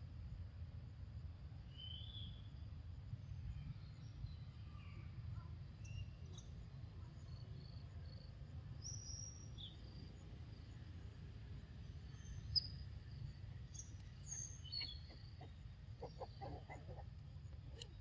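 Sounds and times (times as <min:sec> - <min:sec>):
low steady rumble: 0:02.5 - 0:18.0.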